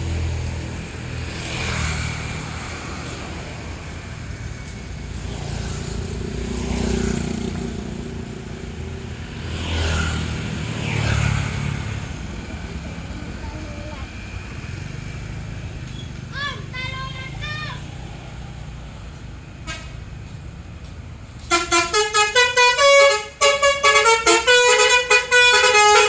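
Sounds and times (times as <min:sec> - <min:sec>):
bus engines running low: 0:00.0 - 0:26.0
traffic passing: 0:00.0 - 0:26.0.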